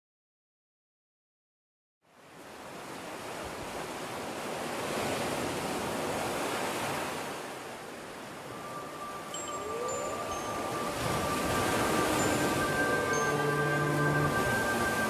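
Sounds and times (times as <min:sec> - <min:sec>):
ocean waves rushing: 0:02.2 - 0:15.0.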